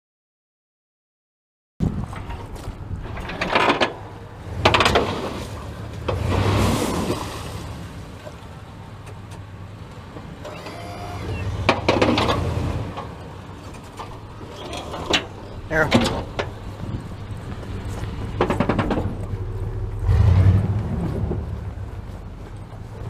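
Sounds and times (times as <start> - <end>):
snowplow crunching ice: 2.0 - 9.4, 10.0 - 23.0
truck engine running: 2.0 - 23.0.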